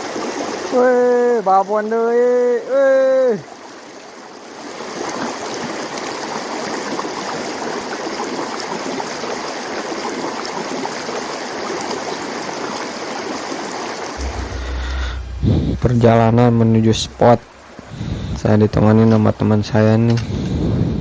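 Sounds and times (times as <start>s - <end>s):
stream flowing over rocks: 0.0s - 15.4s, 16.1s - 20.2s.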